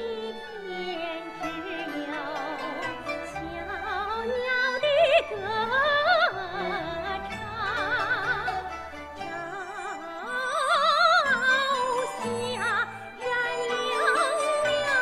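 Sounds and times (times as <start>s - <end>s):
woman singing opera: 0.0s - 15.0s.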